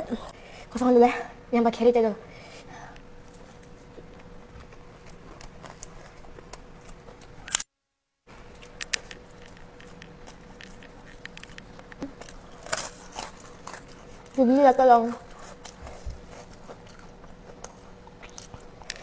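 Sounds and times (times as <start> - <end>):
faint steady hum: 0.0 - 19.0
soft eating clicks and scrapes: 2.2 - 7.6, 8.3 - 19.0.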